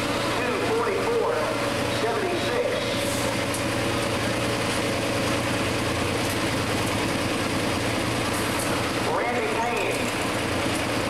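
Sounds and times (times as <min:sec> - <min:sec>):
tractor engine running loudly: 0:00.0 - 0:11.0.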